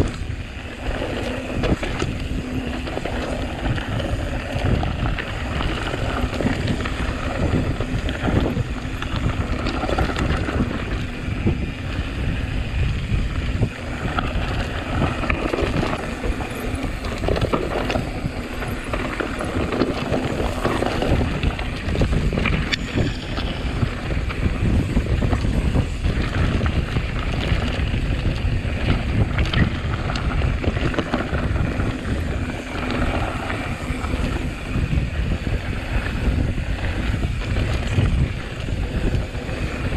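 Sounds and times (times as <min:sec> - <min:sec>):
bike knocks and rattles: 0:00.0 - 0:39.9
bike rumbling on rough trail: 0:00.0 - 0:39.9
wind buffeting microphone: 0:00.0 - 0:39.9.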